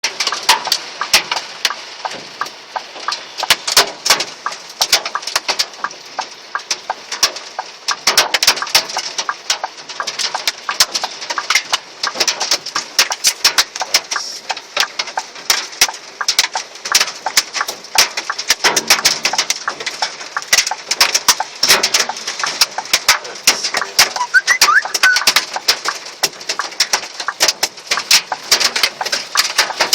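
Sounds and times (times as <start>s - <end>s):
hail clattering on hard surfaces: 0.0s - 29.9s.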